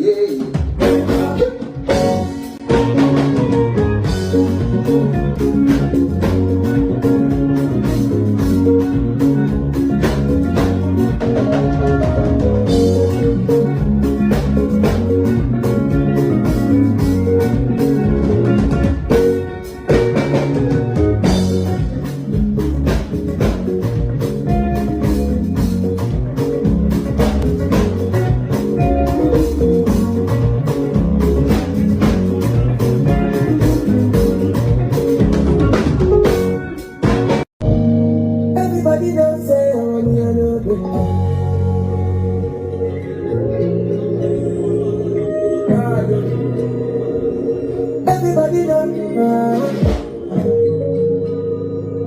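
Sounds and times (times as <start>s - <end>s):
electric guitar: 0.0s - 52.0s
live band playing: 0.0s - 52.0s.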